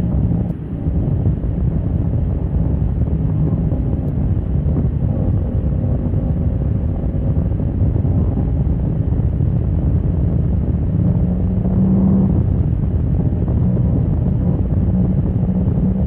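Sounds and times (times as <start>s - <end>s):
motorcycle engine at speed: 0.0s - 16.0s
wind buffeting microphone: 0.0s - 16.0s.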